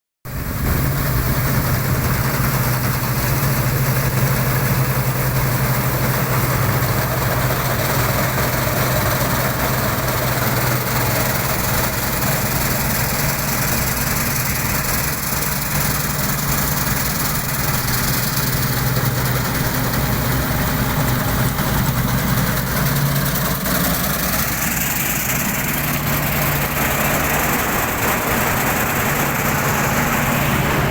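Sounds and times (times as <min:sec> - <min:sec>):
harvester engine droning: 0:00.3 - 0:30.9
rushing noise: 0:00.3 - 0:30.9.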